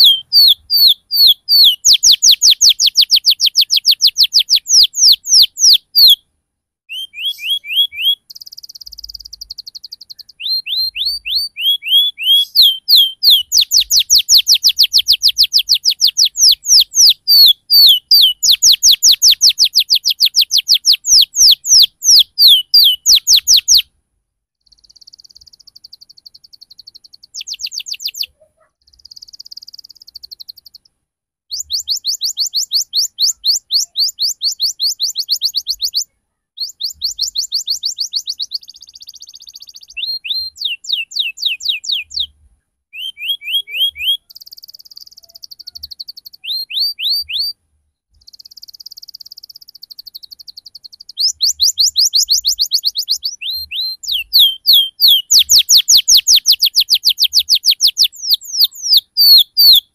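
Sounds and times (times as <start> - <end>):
canary singing: 0.0 - 6.3, 6.9 - 23.9, 24.6 - 59.9.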